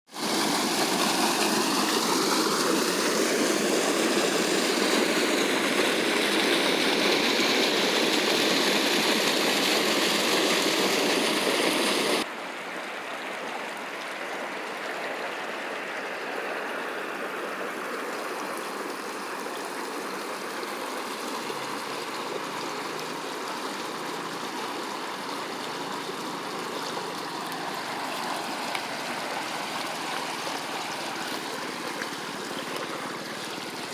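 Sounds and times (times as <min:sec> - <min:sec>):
flowing water rushing: 0:00.1 - 0:33.9.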